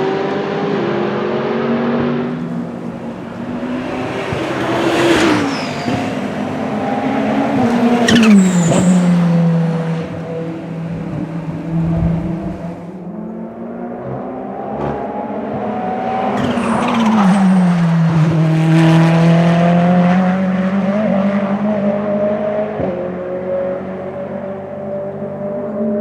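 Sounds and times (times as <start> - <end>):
race car engine passing: 0.0 - 26.0.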